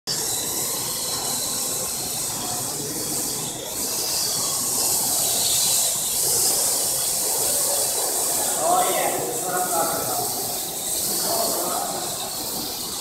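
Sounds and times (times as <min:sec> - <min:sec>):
drone rotors hissing: 0:00.1 - 0:13.0.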